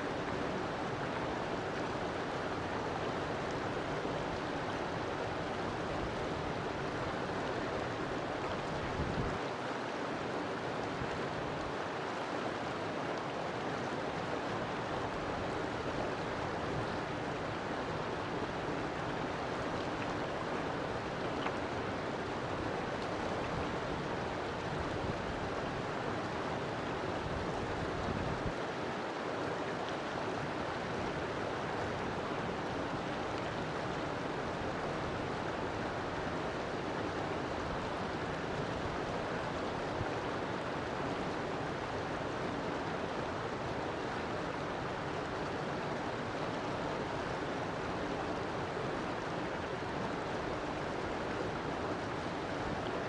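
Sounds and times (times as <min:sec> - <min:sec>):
river water splashing over rocks: 0:00.0 - 0:53.0.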